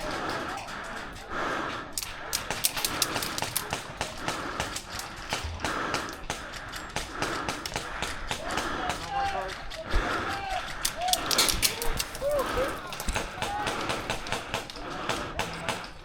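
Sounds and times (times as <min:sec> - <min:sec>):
person breathing hard: 0:00.0 - 0:16.0
sharp clicks: 0:00.2 - 0:16.0.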